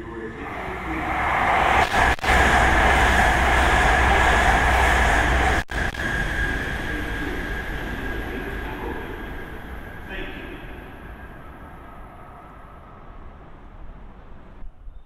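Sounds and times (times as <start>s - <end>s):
train passing at speed: 0.3s - 14.6s.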